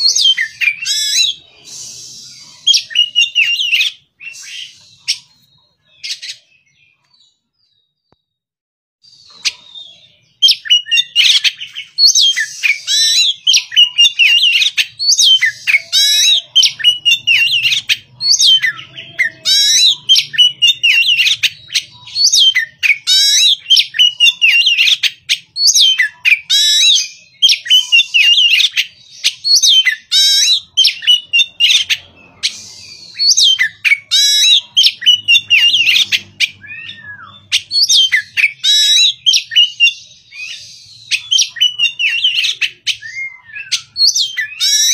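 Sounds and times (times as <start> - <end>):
bird singing whistled phrases: 0.0 - 7.3, 9.0 - 44.9.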